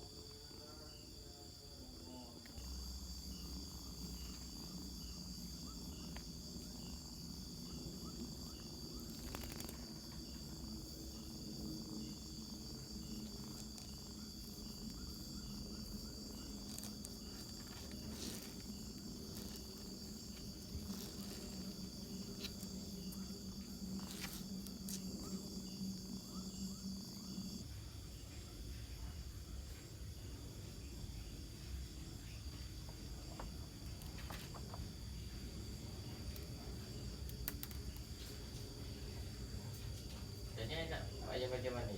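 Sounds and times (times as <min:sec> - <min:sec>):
insects chirring: 0:00.0 - 0:41.9.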